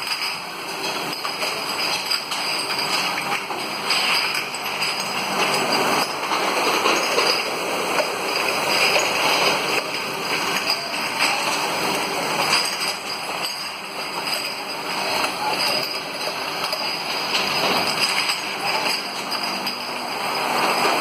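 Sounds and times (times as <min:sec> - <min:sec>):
bottle washing machine running: 0:00.0 - 0:21.0.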